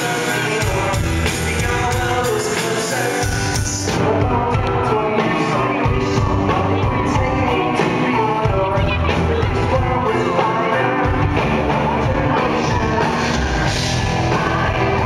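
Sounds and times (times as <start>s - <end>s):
man singing: 0.0s - 15.0s
rock band playing live: 0.0s - 15.0s.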